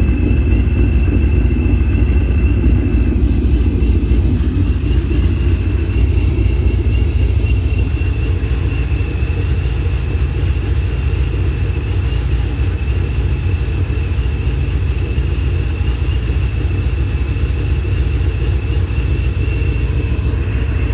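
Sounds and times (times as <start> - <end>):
car engine idling: 0.0 - 20.9
high-pitched whine: 0.0 - 20.9.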